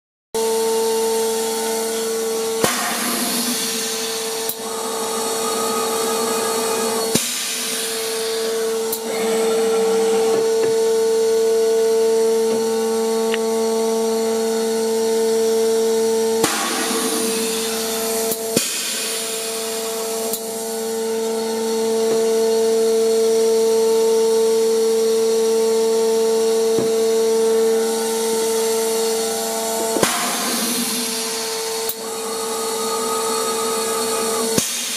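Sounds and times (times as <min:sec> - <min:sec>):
machine high-pitched hum: 0:00.4 - 0:34.9.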